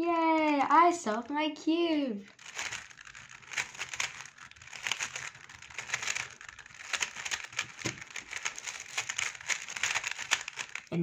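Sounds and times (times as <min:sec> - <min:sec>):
puzzle cube plastic clicks: 0:00.0 - 0:01.3, 0:02.2 - 0:11.0.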